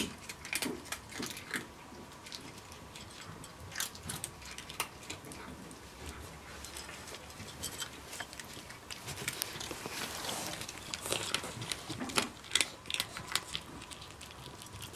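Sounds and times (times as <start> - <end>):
cat crunching dry kibble: 0.0 - 14.9.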